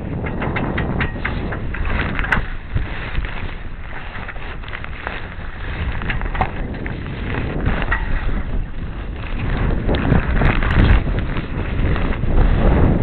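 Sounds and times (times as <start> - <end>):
wind rushing across microphone: 0.0 - 13.0.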